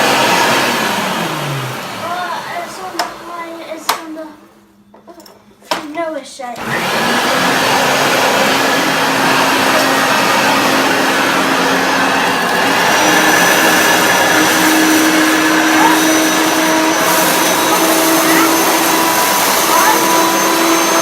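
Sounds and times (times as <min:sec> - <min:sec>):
upright vacuum cleaner running: 0:00.0 - 0:04.0, 0:06.6 - 0:21.0.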